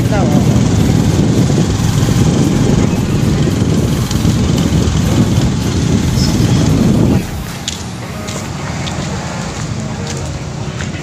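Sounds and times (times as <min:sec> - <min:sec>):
motorcycle engine running: 0:00.0 - 0:09.7
wind rumble on microphone: 0:00.0 - 0:11.0.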